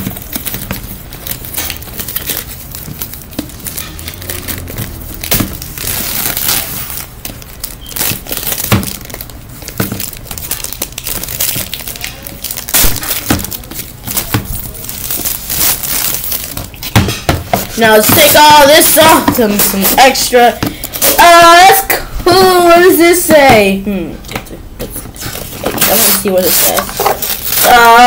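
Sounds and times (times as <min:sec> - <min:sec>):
plastic wrapping crinkling: 0:00.0 - 0:28.0.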